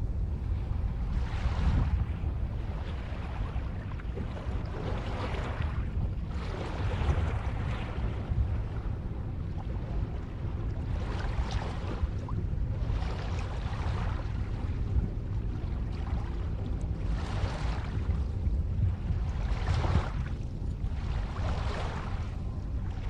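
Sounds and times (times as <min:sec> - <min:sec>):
ocean waves breaking on shore: 0:00.0 - 0:23.0.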